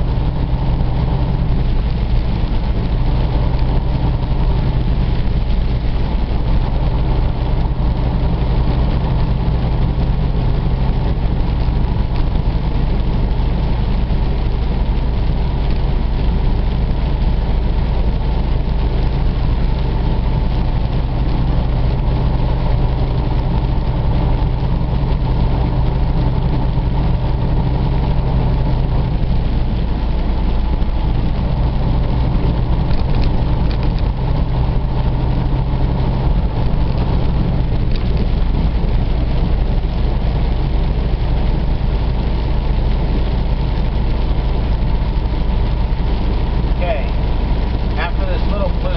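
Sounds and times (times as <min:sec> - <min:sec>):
truck engine droning: 0:00.0 - 0:48.9
tyre and road noise: 0:00.0 - 0:48.9.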